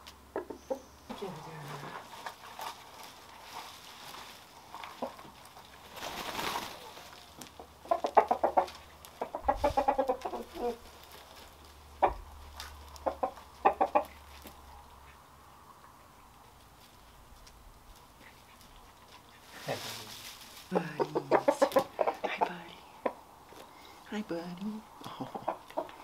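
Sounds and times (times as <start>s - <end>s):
roosters clucking: 0.0s - 26.0s.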